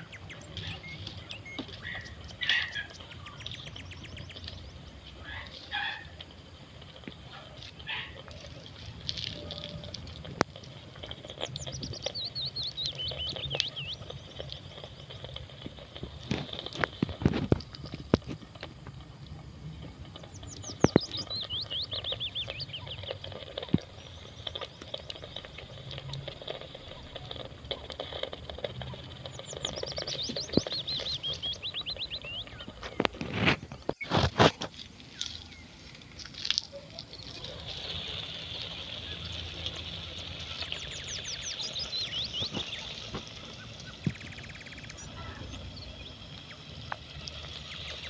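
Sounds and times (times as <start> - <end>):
songbird singing: 0.0 - 48.0.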